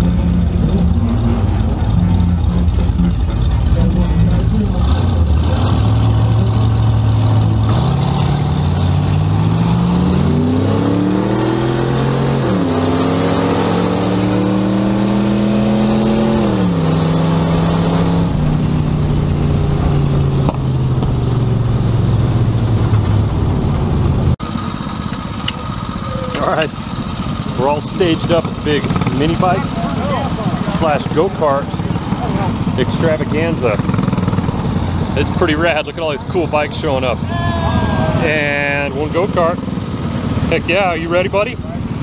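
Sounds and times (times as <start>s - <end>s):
car engine accelerating hard: 0.0s - 42.0s.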